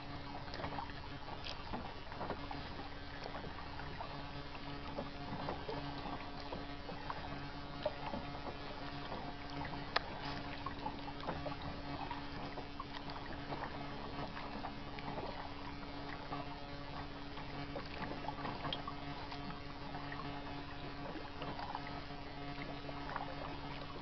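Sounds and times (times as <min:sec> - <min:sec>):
paddle splashing water: 0:00.0 - 0:24.0
steady low hum: 0:00.0 - 0:24.0.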